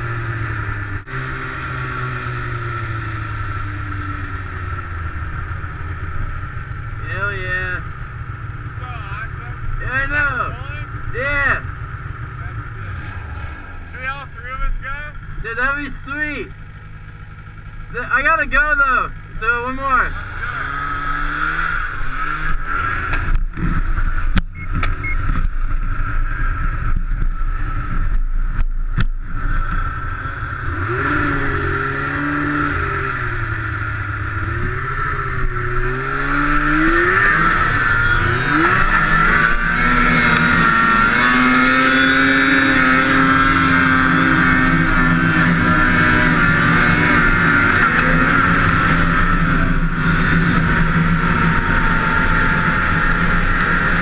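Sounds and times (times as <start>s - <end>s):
snowmobile engine revving: 0.0s - 16.6s, 17.5s - 28.2s, 29.3s - 54.0s.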